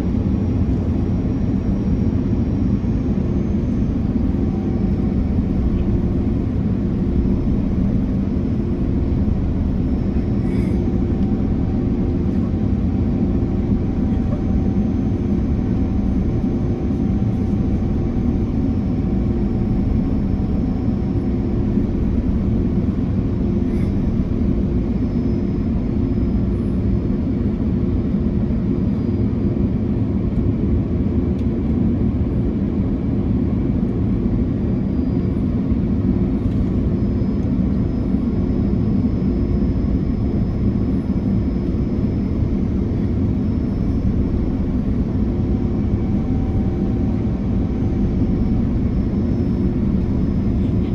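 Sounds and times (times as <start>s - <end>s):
airflow rushing in aircraft cabin: 0.0s - 50.9s
jet engine noise: 0.0s - 50.9s
low constant hum: 0.0s - 50.9s.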